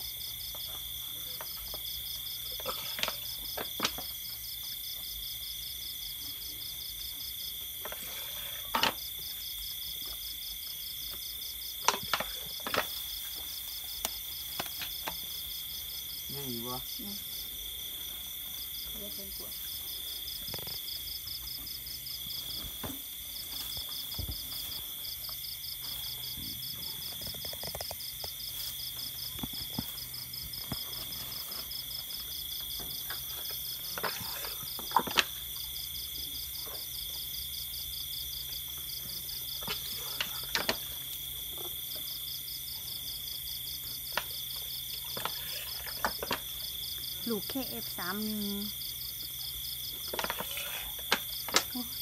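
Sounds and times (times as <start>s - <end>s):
insect trill: 0.0s - 52.0s.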